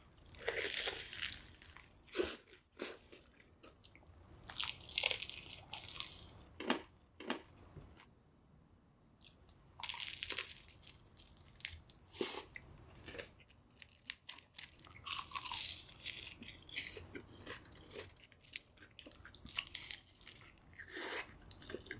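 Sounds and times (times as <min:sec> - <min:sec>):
crunching and chewing food: 0:00.1 - 0:08.1, 0:09.2 - 0:21.9.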